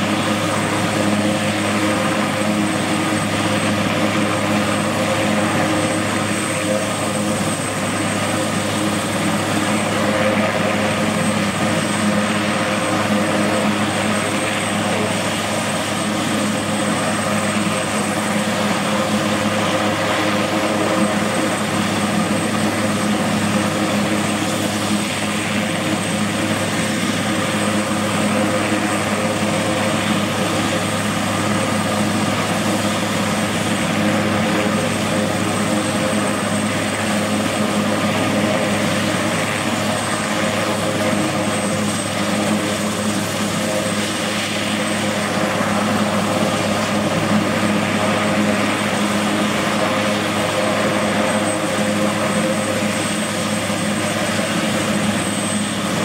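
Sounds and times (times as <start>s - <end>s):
helicopter rotor and engine drone: 0.0s - 56.0s
high turbine whine: 0.0s - 56.0s.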